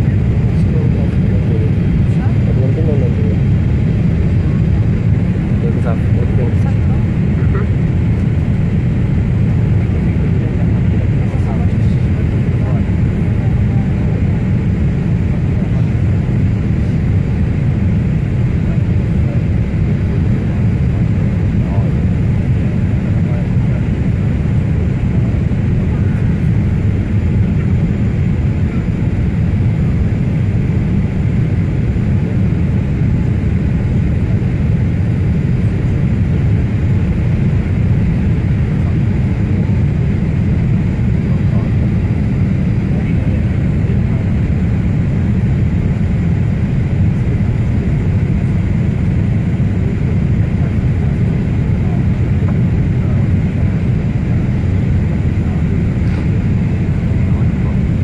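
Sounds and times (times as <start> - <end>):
airplane cabin engine noise: 0.0 - 58.0.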